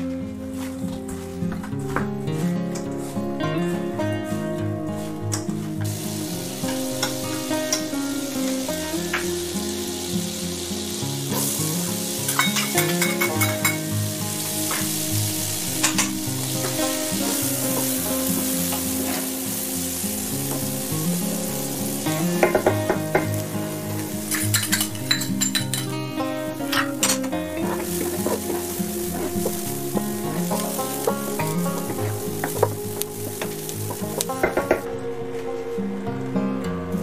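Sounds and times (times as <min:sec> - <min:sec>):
onions sizzling in a frying pan: 0:00.0 - 0:34.9
instrumental background music: 0:00.0 - 0:37.0.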